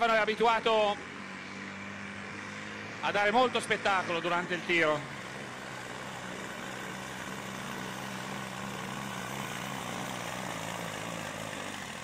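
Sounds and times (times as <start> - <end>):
tractor engine at full throttle: 0.0 - 12.0.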